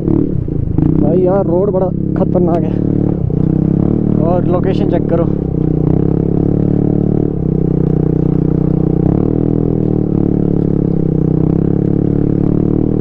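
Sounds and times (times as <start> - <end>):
scooter engine running under load: 0.0 - 13.0.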